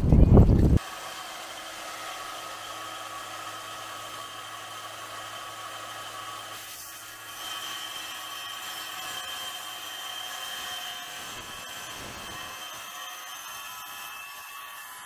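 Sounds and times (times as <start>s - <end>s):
tile saw motor whine: 0.5s - 15.0s
saw blade cutting tile: 0.8s - 15.0s.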